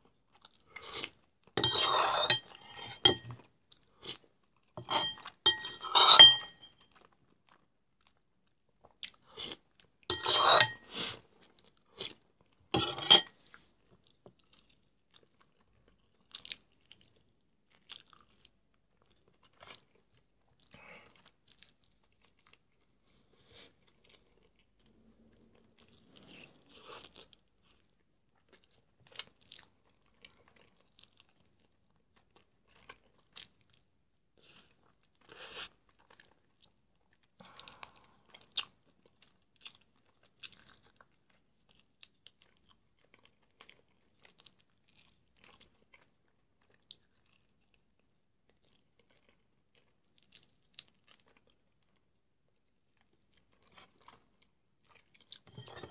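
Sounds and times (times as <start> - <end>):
chewing and gnawing bone: 0.0 - 8.2, 8.8 - 55.9.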